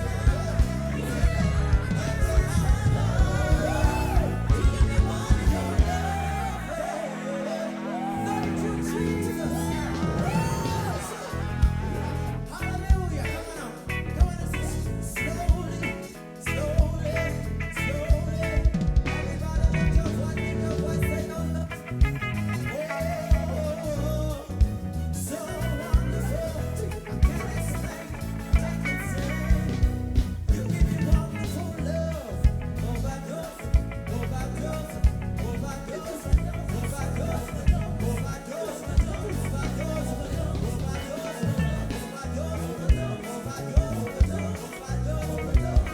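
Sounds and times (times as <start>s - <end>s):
live reggae band playing: 0.0s - 45.9s
person singing: 0.0s - 45.9s.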